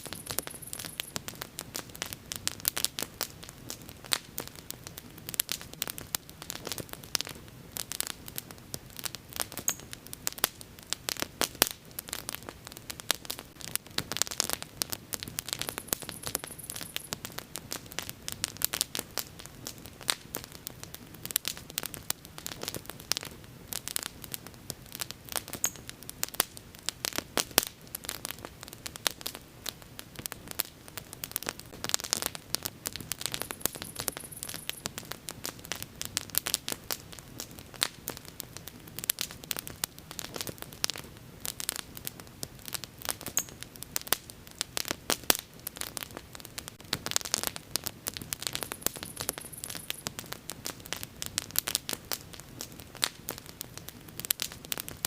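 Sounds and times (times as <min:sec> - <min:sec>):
bonfire crackling: 0:00.0 - 0:55.0
low rumble of burning: 0:00.0 - 0:55.0.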